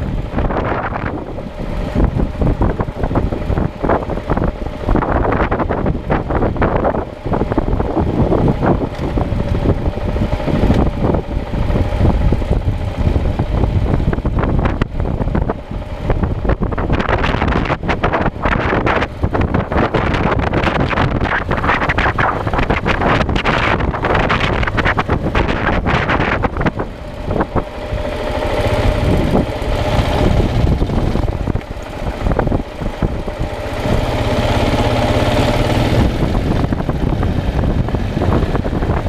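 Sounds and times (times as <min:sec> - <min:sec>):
motorcycle engine running: 0:00.0 - 0:39.0
wind noise on microphone: 0:00.0 - 0:39.0.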